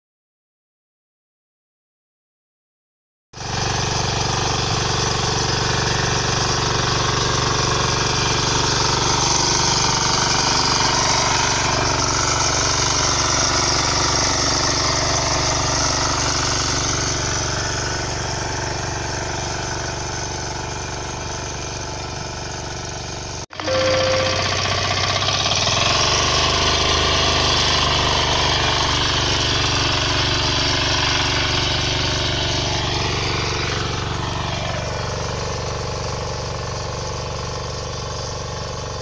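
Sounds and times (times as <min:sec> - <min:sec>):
power weeder engine tilling: 0:03.4 - 0:39.0.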